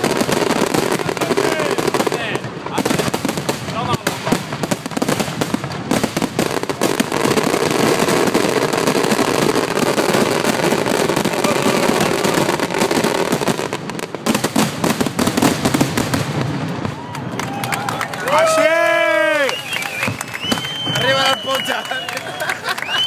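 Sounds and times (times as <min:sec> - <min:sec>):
fireworks bangs and crackles: 0:00.0 - 0:22.1.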